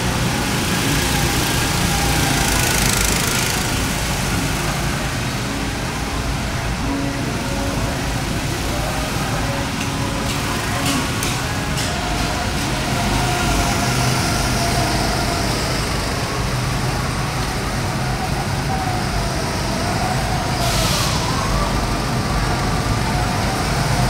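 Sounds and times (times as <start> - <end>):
vehicle motor drone: 0.0 - 24.0.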